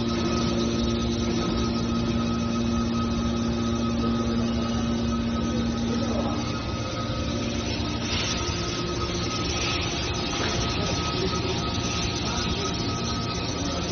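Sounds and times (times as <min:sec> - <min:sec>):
hydraulic baler humming: 0:00.0 - 0:13.9.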